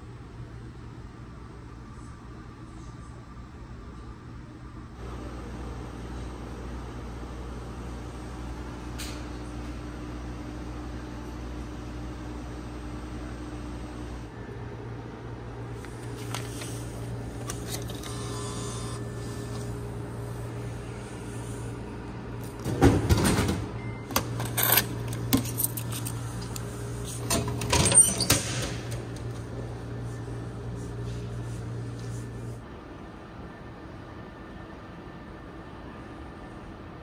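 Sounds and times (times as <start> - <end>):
steady low hum: 0.0 - 27.8, 28.5 - 37.0.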